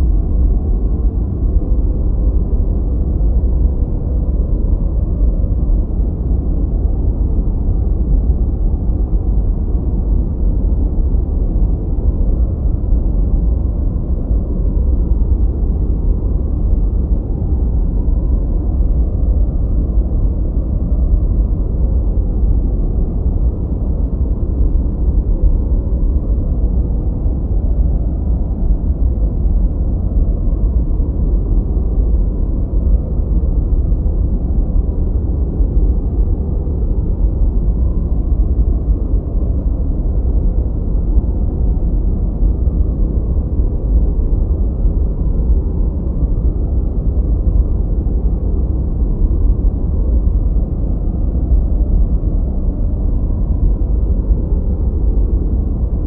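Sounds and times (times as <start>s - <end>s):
brown noise rumble: 0.0s - 56.0s.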